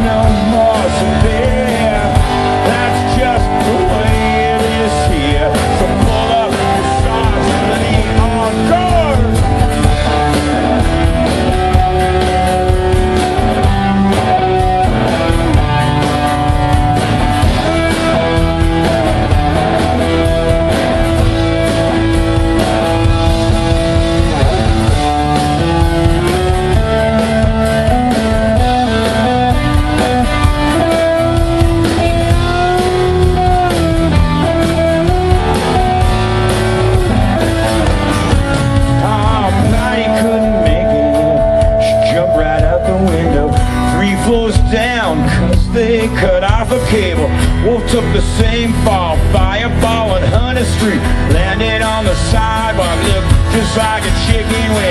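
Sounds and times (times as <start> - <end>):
bass guitar: 0.0 - 54.9
drums: 0.0 - 54.9
electric guitar lead: 0.0 - 54.9.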